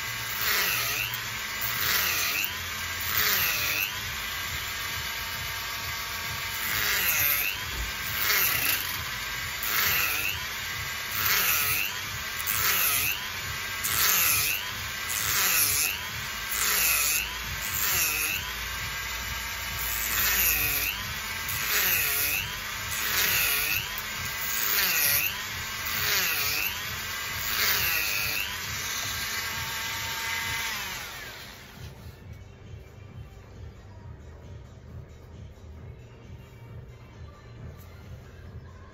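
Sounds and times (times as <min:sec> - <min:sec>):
rotary tool grinding shell: 0:00.0 - 0:31.9.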